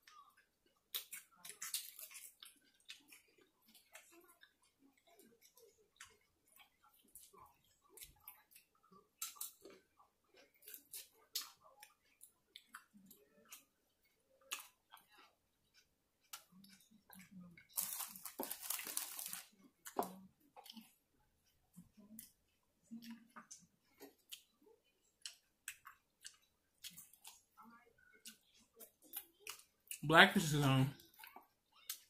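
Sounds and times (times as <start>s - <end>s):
chewing and crunching salad: 0.0s - 32.0s.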